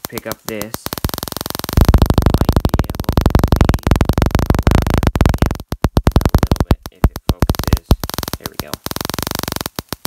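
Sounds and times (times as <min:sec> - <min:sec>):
tesla coil sparks crackling: 0:00.0 - 0:10.0.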